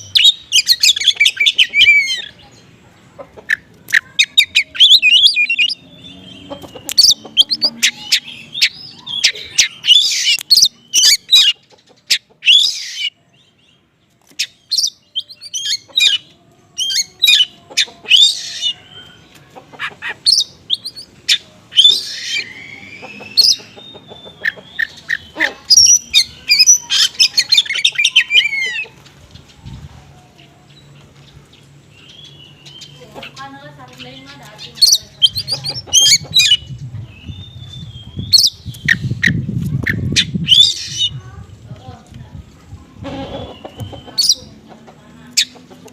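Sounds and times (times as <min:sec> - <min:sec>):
songbird singing trills and whistles: 0:00.0 - 0:02.5, 0:03.5 - 0:19.4, 0:20.0 - 0:29.8, 0:31.9 - 0:41.2, 0:43.0 - 0:44.6.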